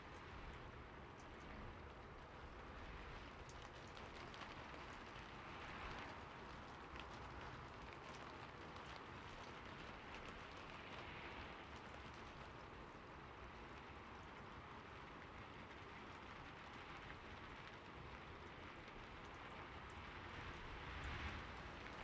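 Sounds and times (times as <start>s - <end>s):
rain on a roof: 0.0s - 22.0s.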